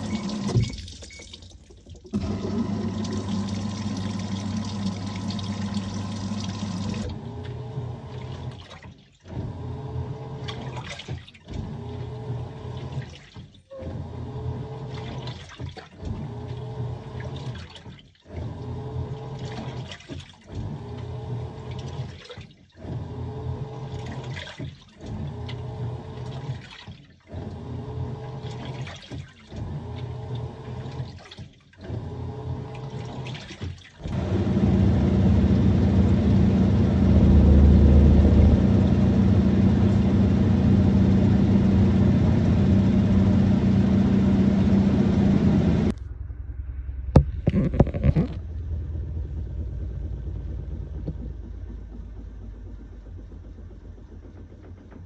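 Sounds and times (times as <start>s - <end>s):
washing machine sloshing and humming: 0.0s - 46.0s, 47.4s - 55.0s
washing machine tub spinning whir: 0.0s - 46.0s, 47.5s - 55.0s.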